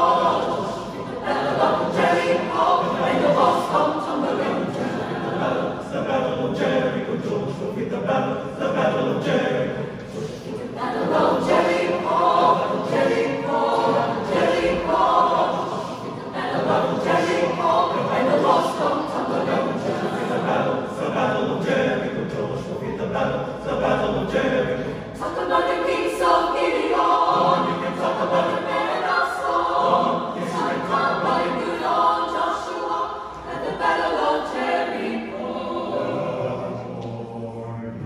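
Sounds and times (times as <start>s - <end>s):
mixed choir singing a cappella: 0.0s - 38.0s.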